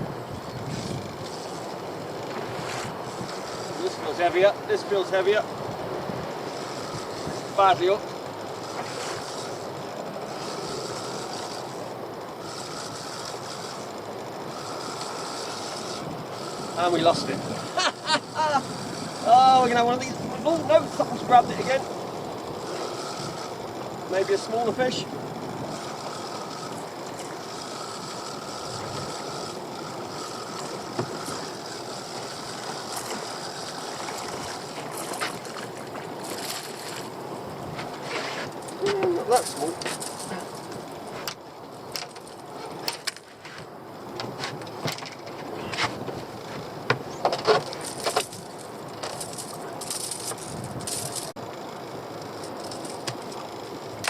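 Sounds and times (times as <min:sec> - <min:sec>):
sea noise: 0:00.0 - 0:54.0
water lapping around a boat: 0:00.0 - 0:54.0
wind: 0:00.0 - 0:54.0.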